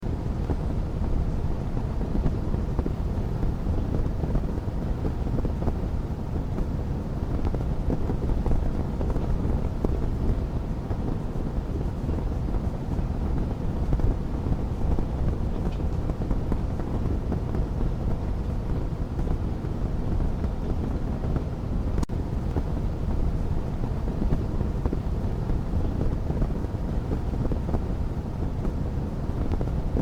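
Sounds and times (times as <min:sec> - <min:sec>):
wood fire crackling: 0:00.1 - 0:30.0.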